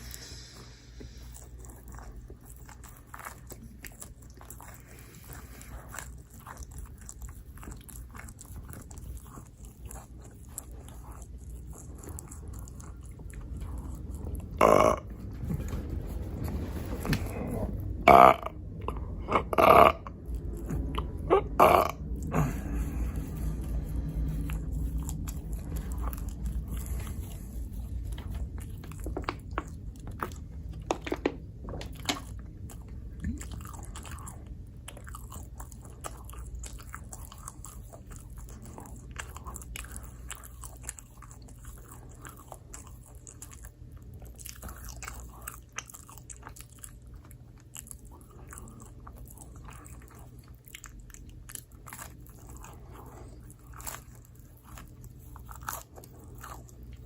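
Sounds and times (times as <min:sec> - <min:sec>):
biting and chewing pizza: 0:00.0 - 0:57.0
steady low hum: 0:00.0 - 0:57.0.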